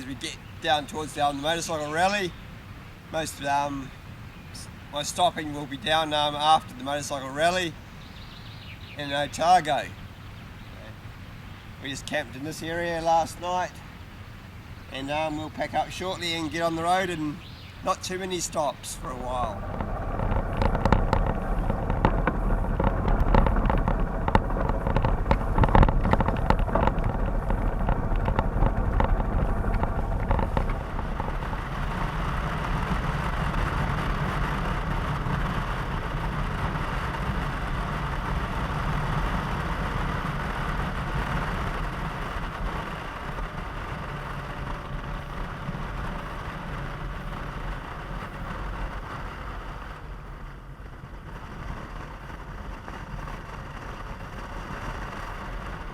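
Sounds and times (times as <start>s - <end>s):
motorcycle engine crackling: 4.2s - 55.9s.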